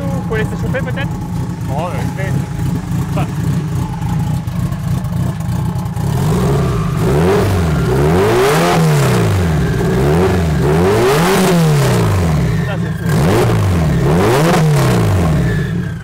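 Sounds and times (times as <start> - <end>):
loud car engine idling and revving: 0.0 - 16.0.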